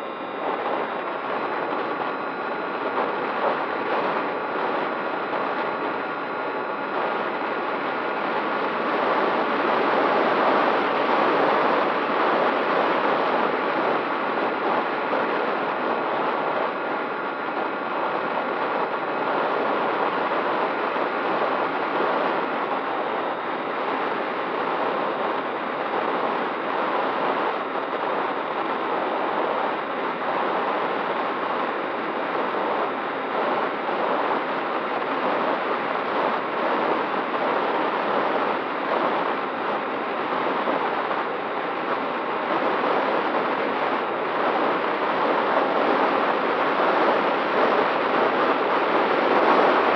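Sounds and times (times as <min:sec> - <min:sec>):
faint steady whine: 0:00.0 - 0:49.9.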